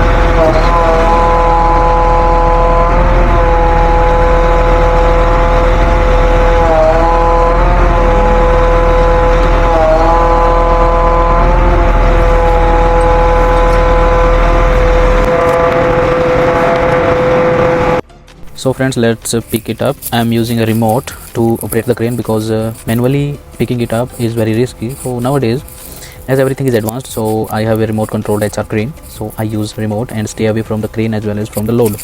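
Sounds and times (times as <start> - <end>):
hydraulic power unit whine: 0.0 - 32.0
truck engine rumble: 0.0 - 32.0.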